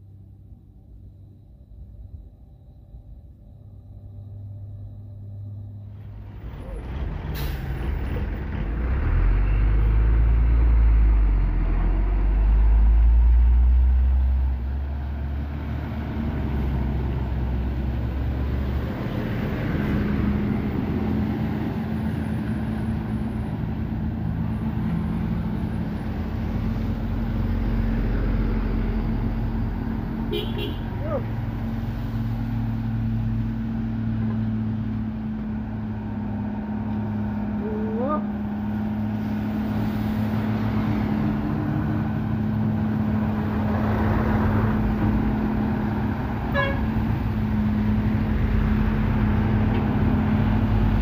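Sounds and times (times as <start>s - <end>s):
heavy diesel truck engines: 0.0s - 51.0s
tyres on wet road: 5.9s - 51.0s.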